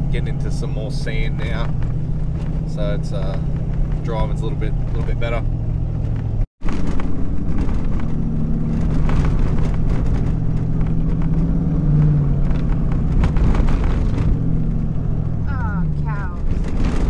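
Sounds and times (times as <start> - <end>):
knocks and rattles: 0.0 - 17.0
truck engine drone: 0.0 - 17.0
tyre and road noise: 0.0 - 17.0.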